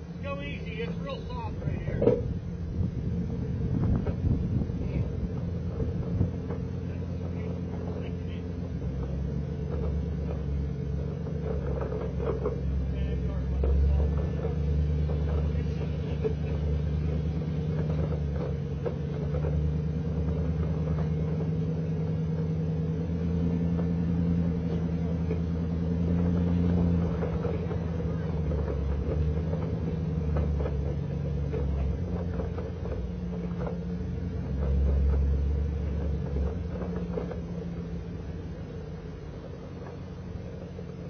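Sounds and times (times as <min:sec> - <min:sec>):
truck engine running under load: 0:00.0 - 0:41.0
knocks and rattles: 0:00.1 - 0:41.0.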